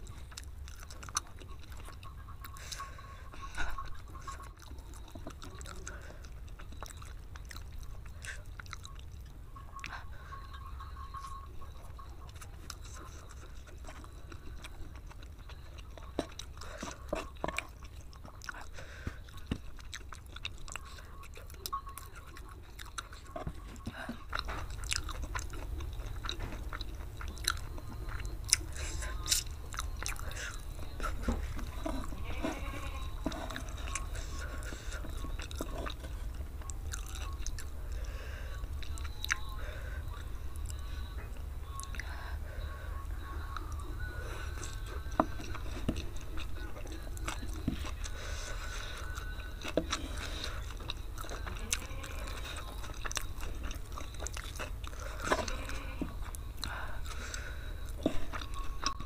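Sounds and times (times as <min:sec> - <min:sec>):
chewing noodles: 0:00.0 - 0:59.0.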